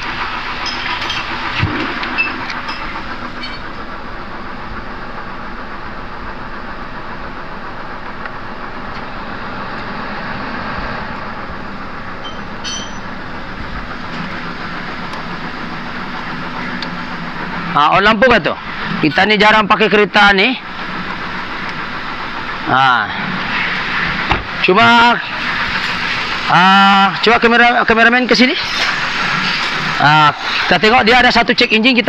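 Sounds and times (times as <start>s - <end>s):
car engine idling: 0.0s - 30.4s.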